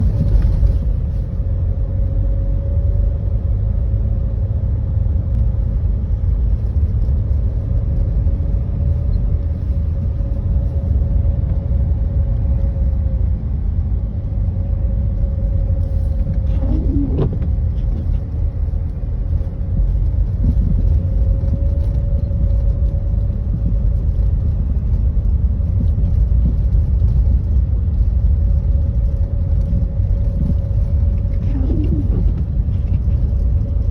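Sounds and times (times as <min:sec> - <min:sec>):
vehicle driving rumble: 0:00.0 - 0:33.9.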